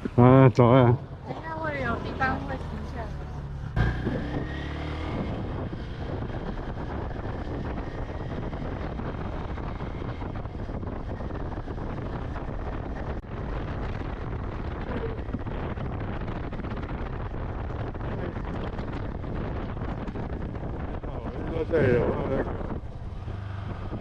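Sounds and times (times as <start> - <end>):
vehicle rumble: 0.0 - 24.0
wind buffeting microphone: 0.0 - 24.0.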